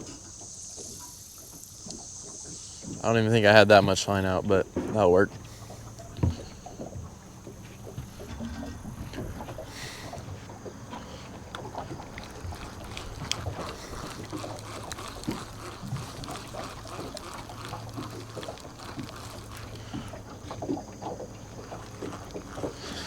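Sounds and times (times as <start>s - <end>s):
boat motor hum: 0.0s - 23.0s
water lapping against hull: 0.0s - 23.0s.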